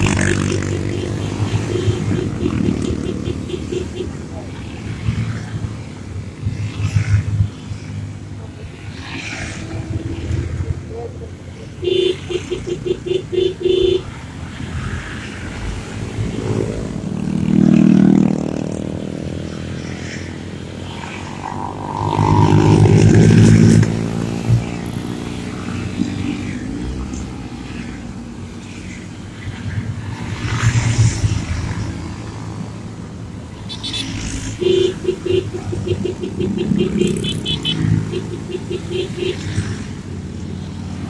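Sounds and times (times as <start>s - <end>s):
motorcycles riding past: 0.0s - 41.0s.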